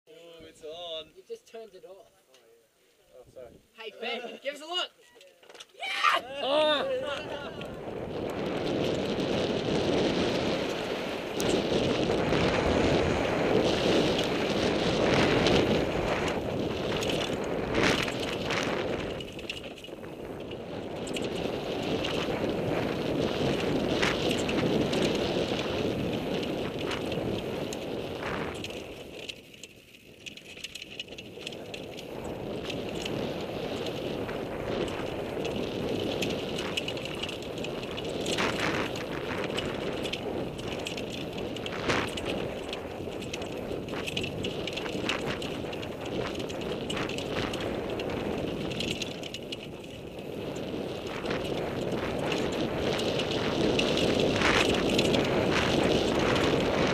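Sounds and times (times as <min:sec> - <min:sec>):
tyre and wind rush: 0:05.8 - 0:56.9
bike rattling over bumps: 0:06.8 - 0:56.9.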